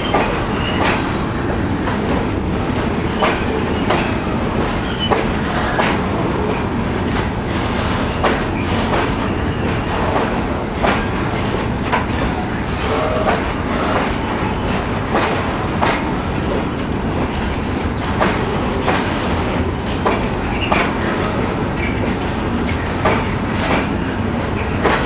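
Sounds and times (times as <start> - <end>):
train wheels rumbling on rail: 0.0 - 25.0
wheels clacking over track joints: 0.0 - 25.0.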